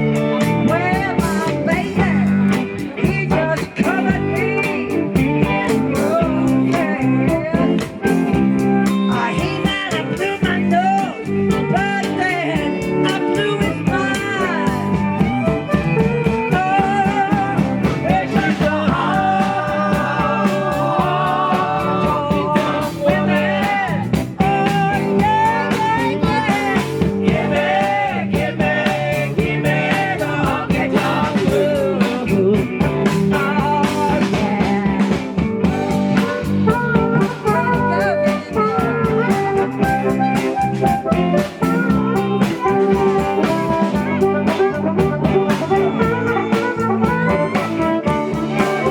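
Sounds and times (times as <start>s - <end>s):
country-rock band playing: 0.0s - 48.9s
lead guitar bending notes: 0.0s - 48.9s.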